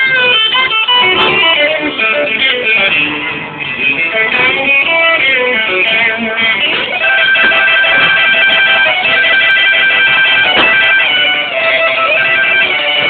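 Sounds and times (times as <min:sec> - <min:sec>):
blues-rock band playing: 0:00.0 - 0:13.0
electric guitar with string bends: 0:00.0 - 0:13.0.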